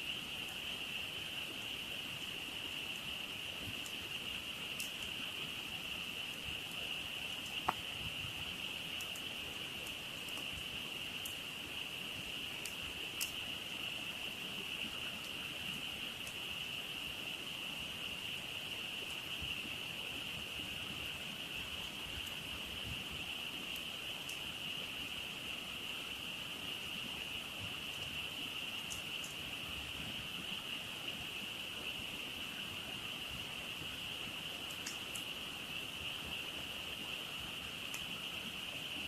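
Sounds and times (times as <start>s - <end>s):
campfire crackling: 0.0s - 39.0s.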